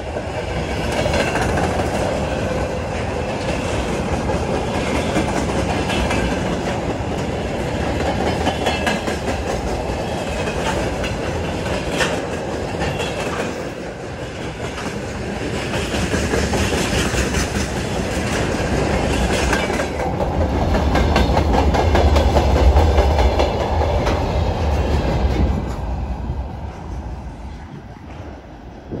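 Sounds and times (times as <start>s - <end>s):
freight train rumbling: 0.0s - 29.0s
wheels clicking over rail joints: 0.8s - 25.9s.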